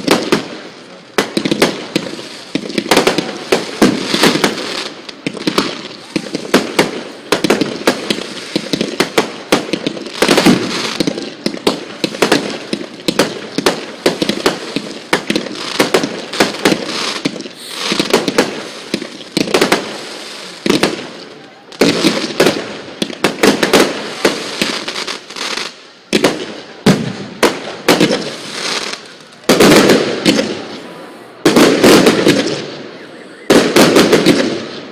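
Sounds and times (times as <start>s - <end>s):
fireworks bangs: 0.0s - 34.9s.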